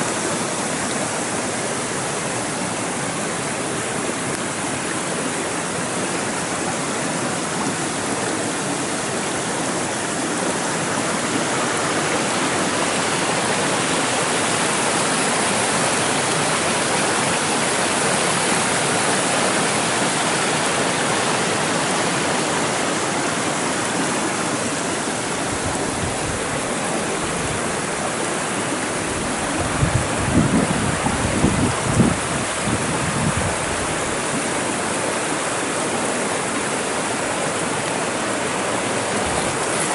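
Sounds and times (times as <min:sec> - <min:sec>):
water rushing over stones: 0:00.0 - 0:39.9.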